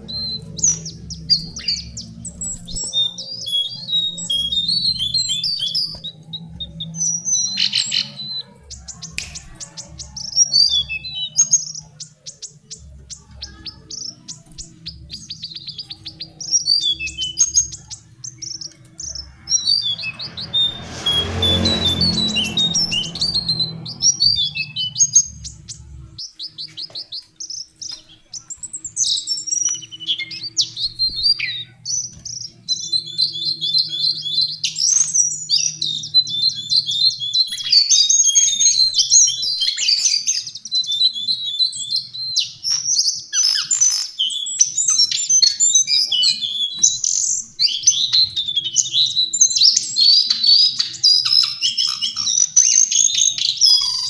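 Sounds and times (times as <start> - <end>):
bird singing warbling song: 0.0 - 54.0.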